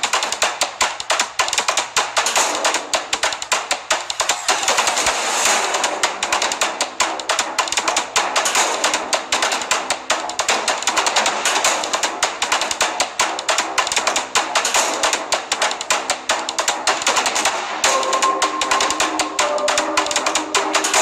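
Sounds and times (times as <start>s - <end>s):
music with fast drum beat: 0.0s - 21.0s.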